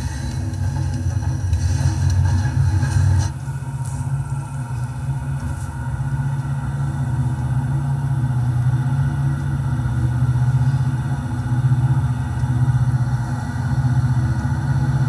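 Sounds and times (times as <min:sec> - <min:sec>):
model train humming: 0:00.0 - 0:15.0.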